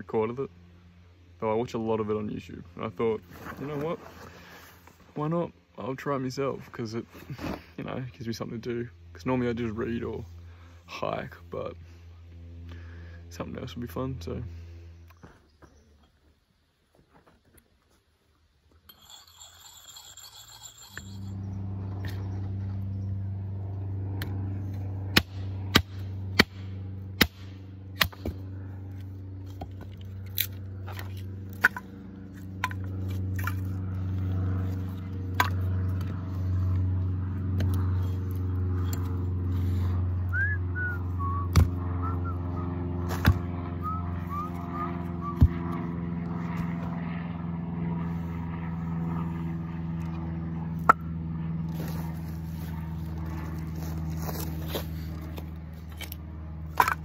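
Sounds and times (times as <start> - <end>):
low engine drone: 0.0 - 16.7, 18.6 - 57.0.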